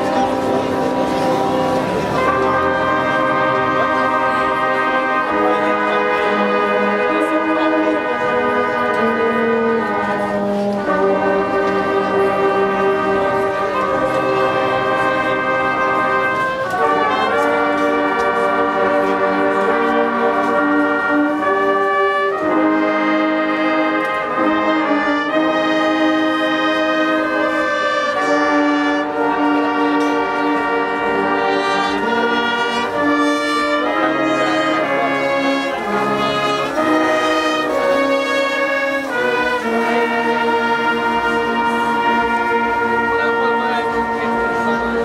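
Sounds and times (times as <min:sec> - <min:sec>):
brass orchestra playing chords: 0:00.0 - 0:45.0.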